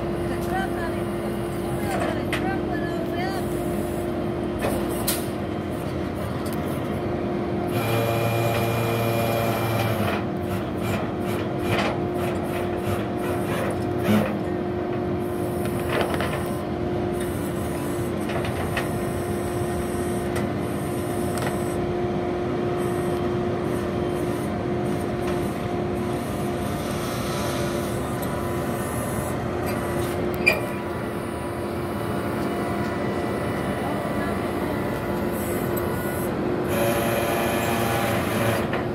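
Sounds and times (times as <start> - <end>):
tow truck winch humming: 0.0 - 38.9.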